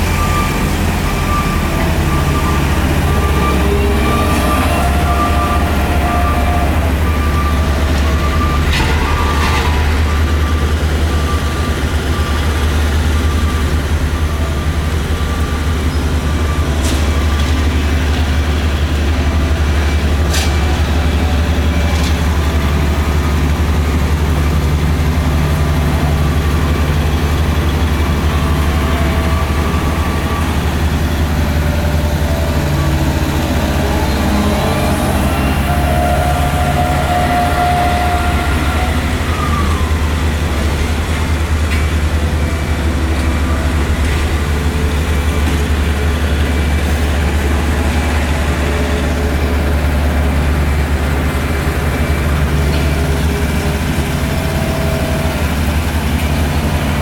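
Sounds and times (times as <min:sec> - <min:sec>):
heavy machinery droning: 0:00.0 - 0:57.0.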